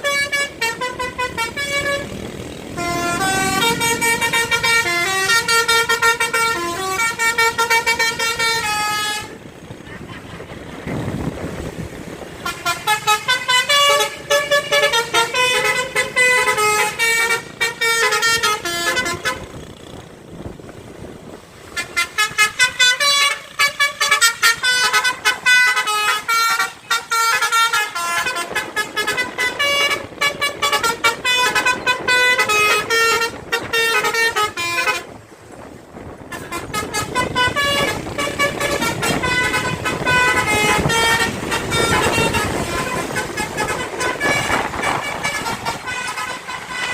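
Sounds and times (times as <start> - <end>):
bus musical horn tooting: 0.0 - 20.4, 21.3 - 46.9.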